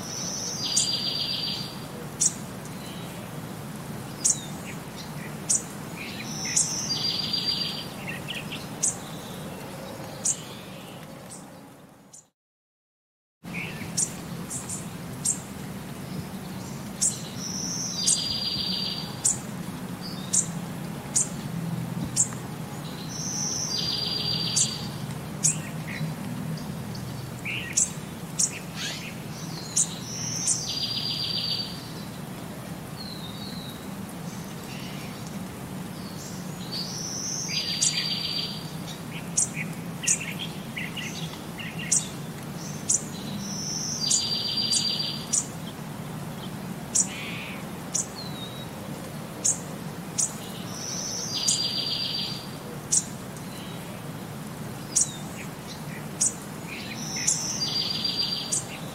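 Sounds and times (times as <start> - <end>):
birds chirping: 0.0 - 12.3, 13.5 - 58.9.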